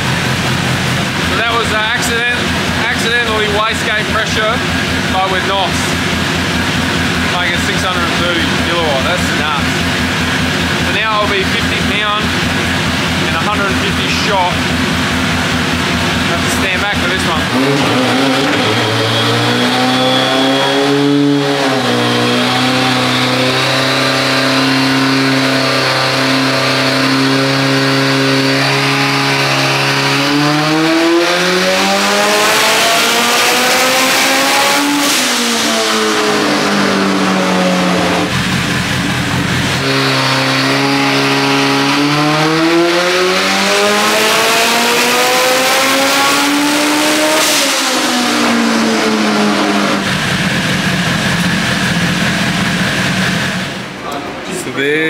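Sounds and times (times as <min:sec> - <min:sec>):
turbocharged engine revving: 0:00.0 - 0:55.0.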